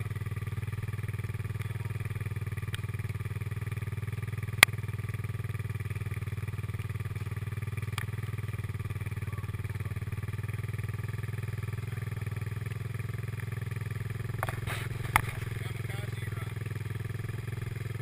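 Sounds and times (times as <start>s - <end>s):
quad bike engine idling: 0.0s - 18.0s.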